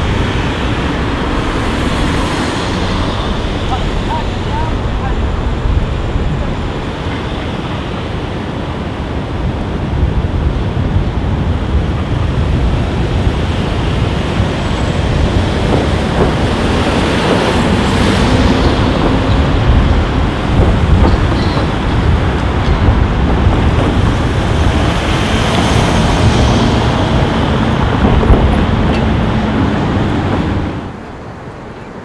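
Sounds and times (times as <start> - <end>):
gusty wind on microphone: 0.0 - 32.0
street traffic: 0.0 - 32.0.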